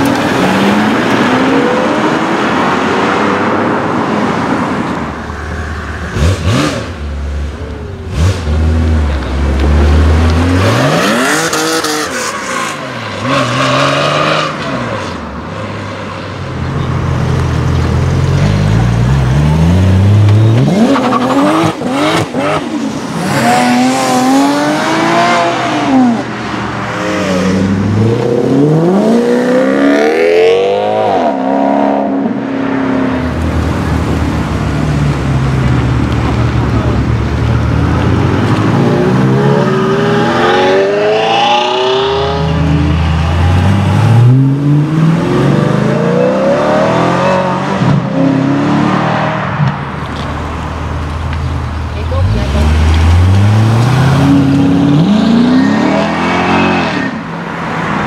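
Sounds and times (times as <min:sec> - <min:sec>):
sports car engines revving: 0:00.0 - 0:58.0.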